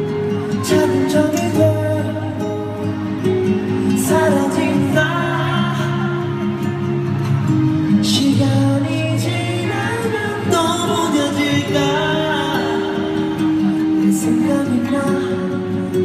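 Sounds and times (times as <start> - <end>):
man singing pop ballad: 0.0 - 16.0.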